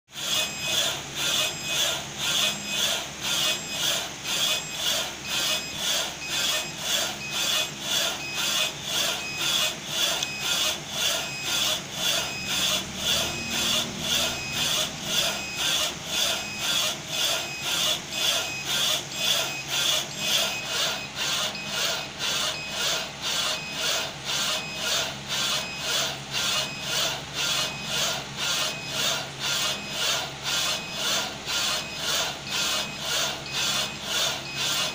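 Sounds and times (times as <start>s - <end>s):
printer rhythmic rubbing swish: 0.1s - 34.9s.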